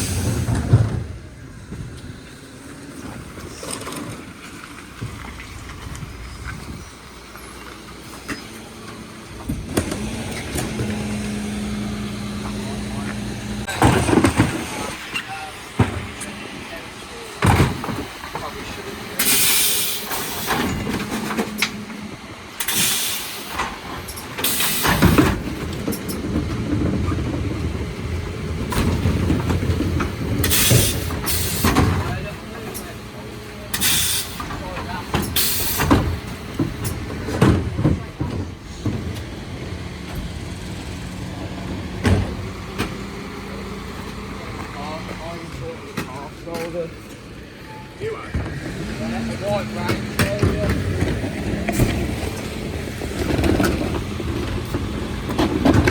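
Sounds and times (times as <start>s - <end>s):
vehicle engine rumble: 0.0s - 55.9s.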